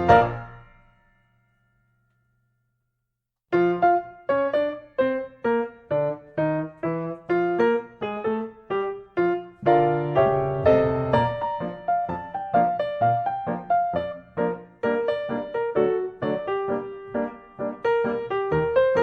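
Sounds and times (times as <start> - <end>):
piano music: 0.0 - 1.7, 3.5 - 19.0.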